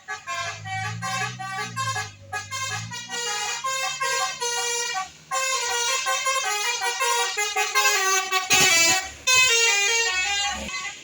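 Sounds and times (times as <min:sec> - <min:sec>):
multi-tone bus horn playing a tune: 0:00.0 - 0:11.0.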